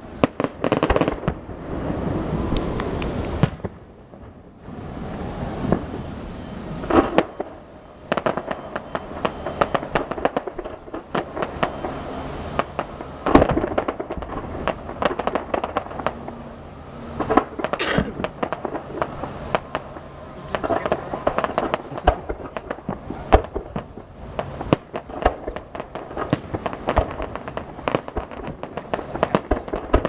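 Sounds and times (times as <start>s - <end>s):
fireworks booming bursts: 0.0s - 30.0s
fireworks crackling and popping: 0.0s - 30.0s.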